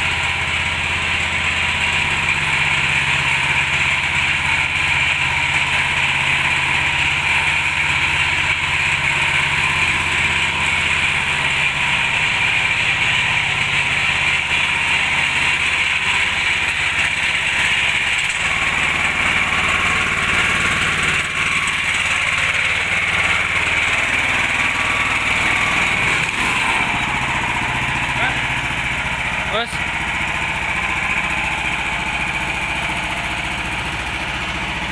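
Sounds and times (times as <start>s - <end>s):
roller engine running: 0.0s - 34.9s.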